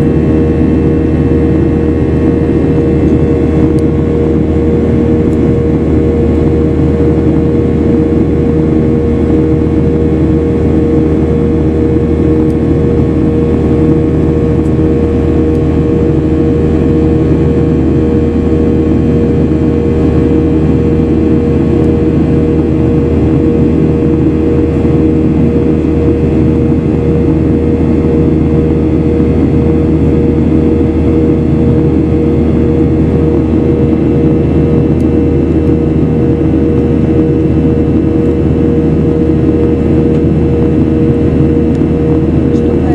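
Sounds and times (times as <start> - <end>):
jet engine drone in cabin: 0.0 - 42.9.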